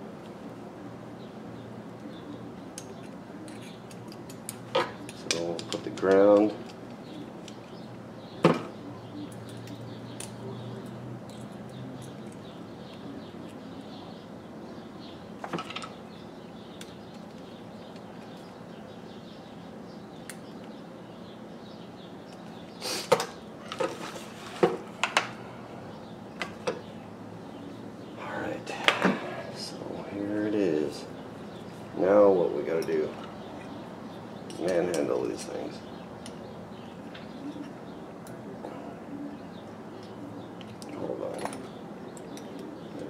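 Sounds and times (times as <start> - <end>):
steady background hum: 0.0 - 43.0.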